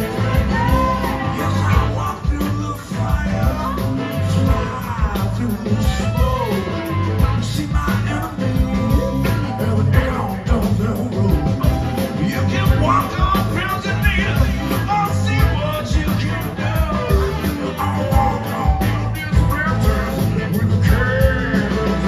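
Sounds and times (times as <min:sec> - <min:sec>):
live rock band playing: 0:00.0 - 0:22.0
man singing lead vocal: 0:00.0 - 0:22.0.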